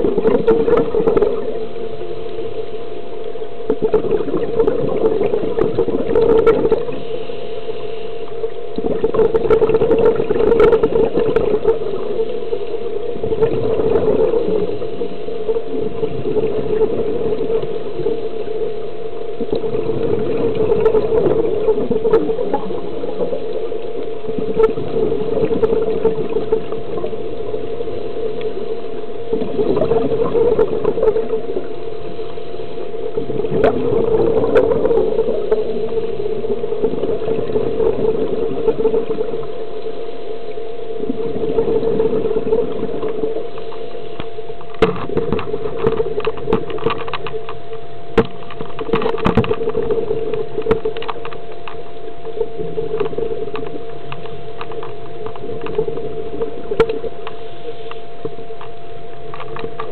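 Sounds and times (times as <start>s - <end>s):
exhaled bubbles gurgling: 0.0s - 59.9s
steady low hum: 0.0s - 59.9s.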